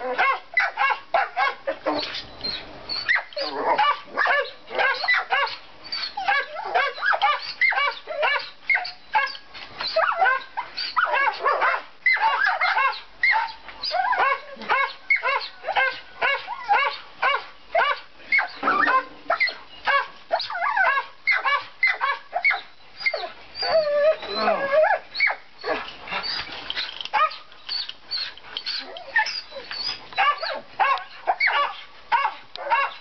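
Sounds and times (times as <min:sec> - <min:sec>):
dog whining: 0:00.0 - 0:33.0
dogs yipping and barking: 0:00.0 - 0:33.0.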